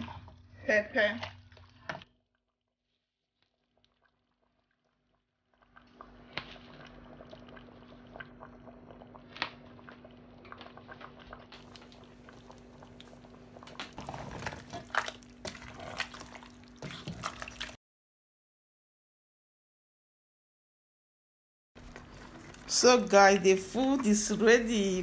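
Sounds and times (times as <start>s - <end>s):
soup bubbling in a pot: 0.0s - 17.8s, 21.8s - 25.0s.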